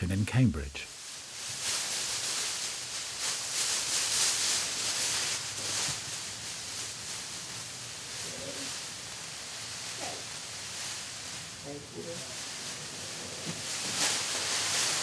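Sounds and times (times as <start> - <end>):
sheet rustling: 1.0 - 15.0.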